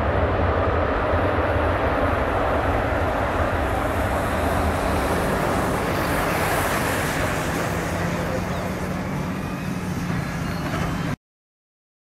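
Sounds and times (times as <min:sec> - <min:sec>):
jet engines roaring: 0:00.0 - 0:11.2
low drone: 0:00.0 - 0:11.2.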